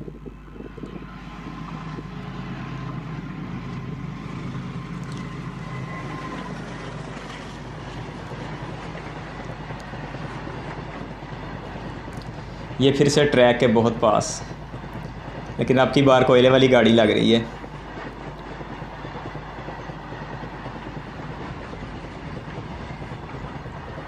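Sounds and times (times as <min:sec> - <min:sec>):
diesel locomotive passing: 0:00.0 - 0:24.0
faint steady whine: 0:00.0 - 0:24.0
freight wagons rumbling on rails: 0:00.0 - 0:24.0.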